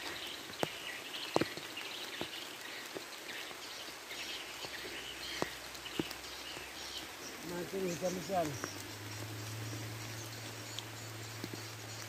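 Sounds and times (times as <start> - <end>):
birds chirping faintly: 0.0 - 12.0
light rain on a pond: 0.0 - 12.0.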